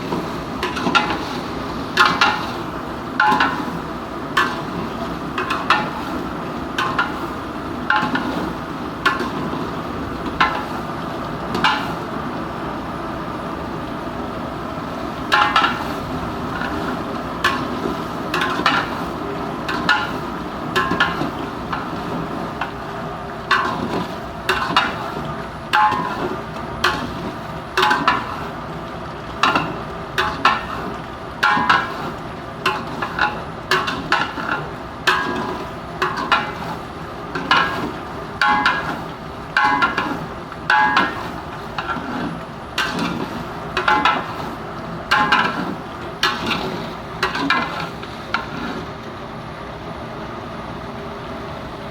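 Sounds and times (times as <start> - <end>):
stove hissing: 0.0 - 51.9.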